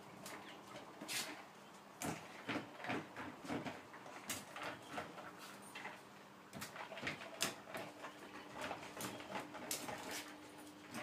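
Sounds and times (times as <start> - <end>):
plastic toy clattering on tiled floor: 2.0 - 11.0.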